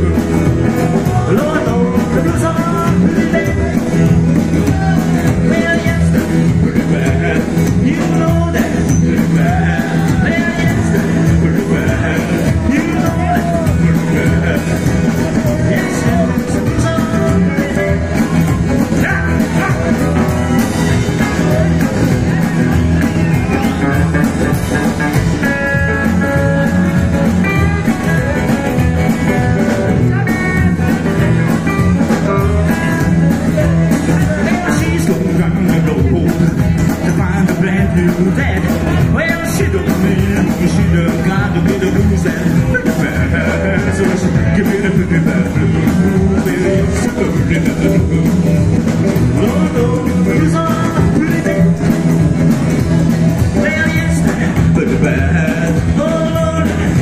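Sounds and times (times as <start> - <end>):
live rockabilly band playing: 0.0 - 57.0.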